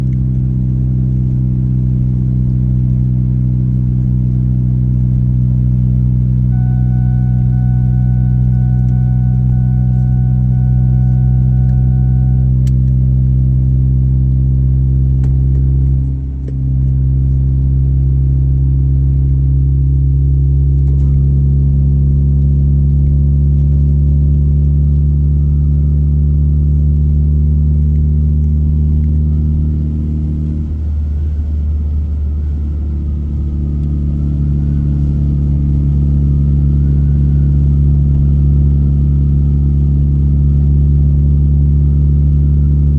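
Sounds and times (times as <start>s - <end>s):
car engine and tyres drone: 0.0s - 42.9s.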